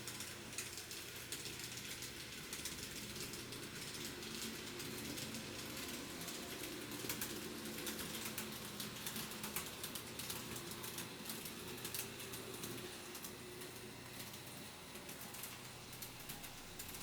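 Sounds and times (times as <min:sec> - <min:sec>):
faint motor hum: 0:00.0 - 0:17.0.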